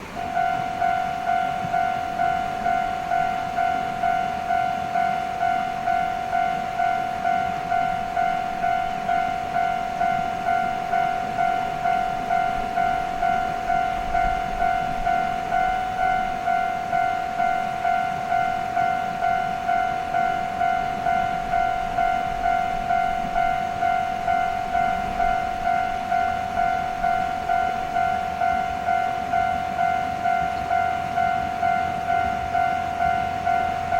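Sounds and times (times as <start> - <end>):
level-crossing warning bell ringing: 0.0 - 33.9.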